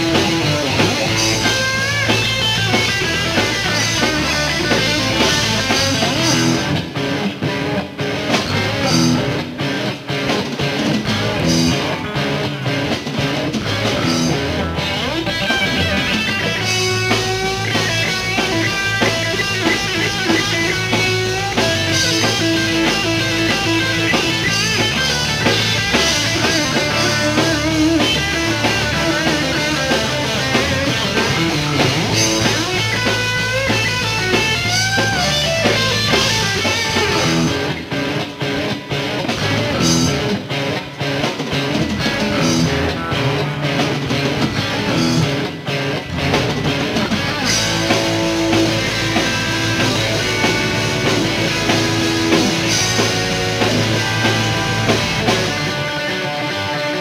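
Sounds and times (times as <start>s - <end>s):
electric guitar bent notes: 0.0s - 57.0s
rock band playing: 0.0s - 57.0s.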